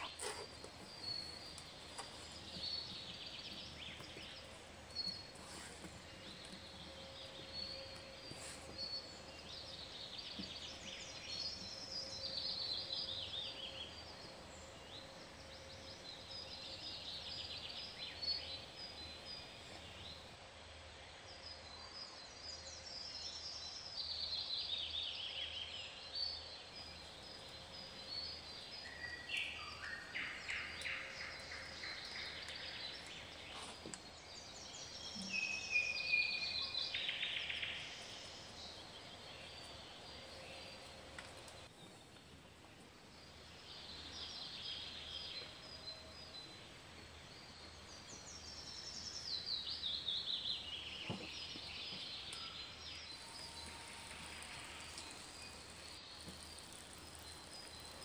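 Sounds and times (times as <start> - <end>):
songbirds singing trills: 0.0 - 20.4, 21.3 - 58.0.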